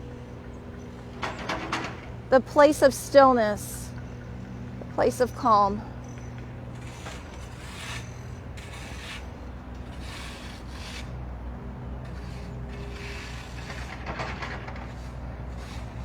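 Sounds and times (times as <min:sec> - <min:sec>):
construction machinery hum: 0:00.0 - 0:16.0.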